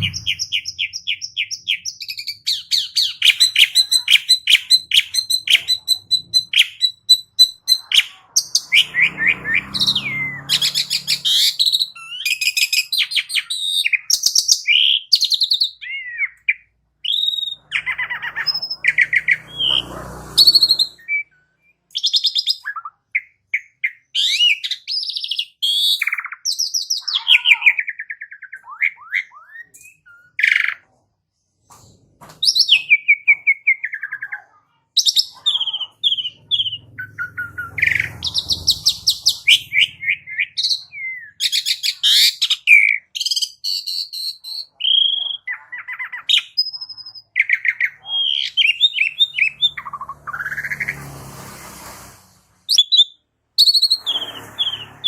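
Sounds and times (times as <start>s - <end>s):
starling singing: 0.0s - 30.8s, 32.4s - 51.1s.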